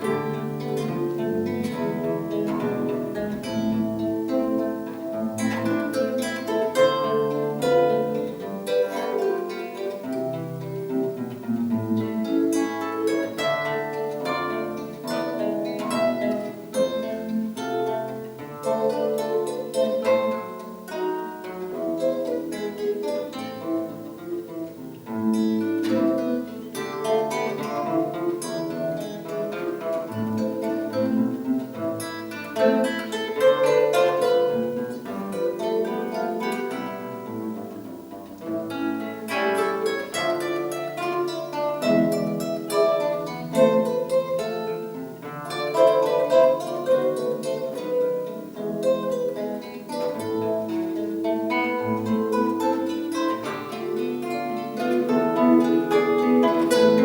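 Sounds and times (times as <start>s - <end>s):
plucked string instrument music: 0.0s - 57.0s.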